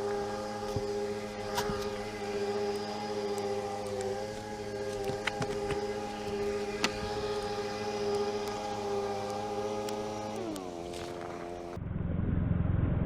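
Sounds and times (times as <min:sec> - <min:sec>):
warning siren wailing: 0:00.0 - 0:11.8.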